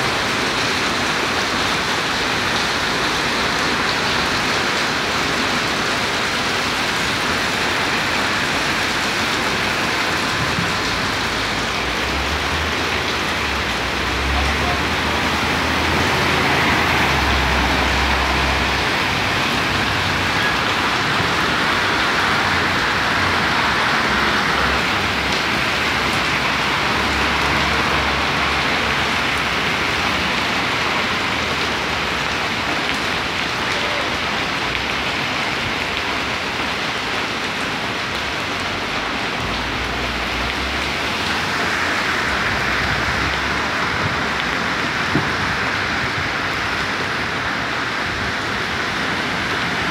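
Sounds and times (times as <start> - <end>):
heavy rain pouring: 0.0 - 49.9
vehicles driving through water: 0.0 - 49.9.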